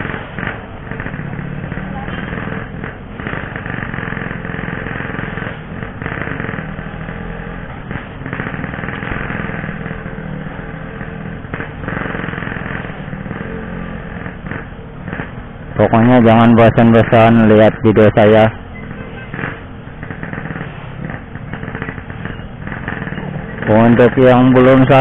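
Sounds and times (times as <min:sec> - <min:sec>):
two-stroke motorcycle engine: 0:00.0 - 0:25.0.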